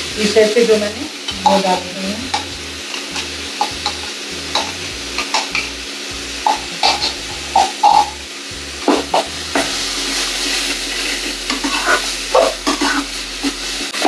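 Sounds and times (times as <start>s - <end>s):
masala sizzling in hot oil: 0.0s - 14.0s.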